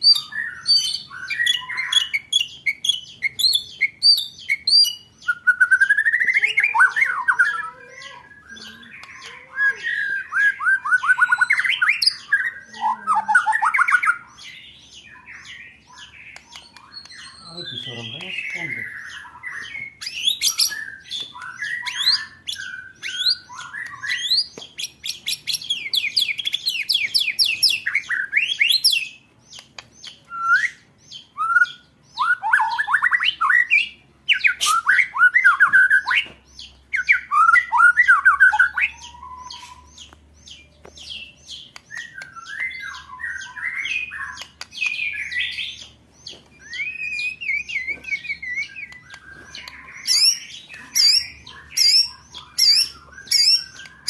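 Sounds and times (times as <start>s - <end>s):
bird singing trills and warbles: 0.0s - 54.0s.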